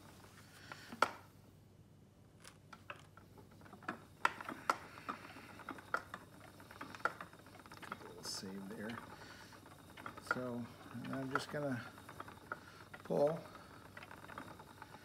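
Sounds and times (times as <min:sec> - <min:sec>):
spinning wheel clicks: 0:02.9 - 0:15.0.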